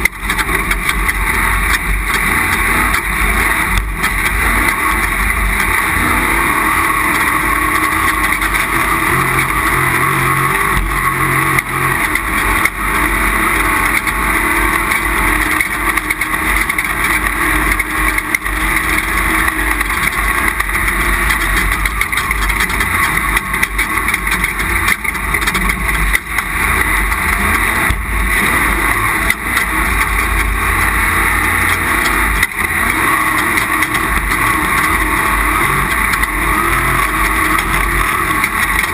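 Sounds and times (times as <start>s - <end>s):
knocks and rattles: 0.0s - 38.9s
race vehicle engine: 0.0s - 38.9s
wind and road noise: 0.0s - 38.9s.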